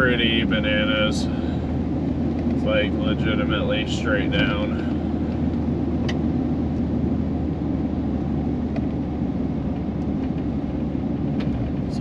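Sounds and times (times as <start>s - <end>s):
pickup engine and tire rumble: 0.0s - 12.0s.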